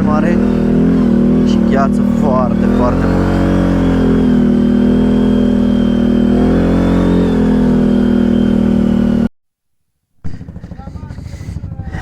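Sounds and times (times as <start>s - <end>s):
engine running under load: 0.0s - 9.3s, 10.2s - 12.0s.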